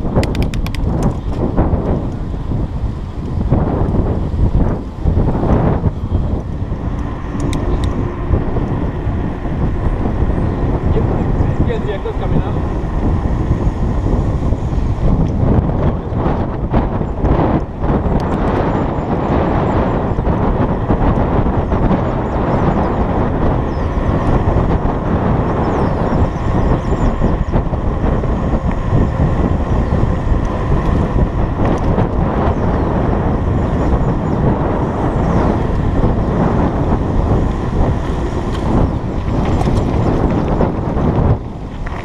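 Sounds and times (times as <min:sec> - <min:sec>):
tyre and road rumble: 0:00.0 - 0:42.0
wind buffeting microphone: 0:00.0 - 0:42.0.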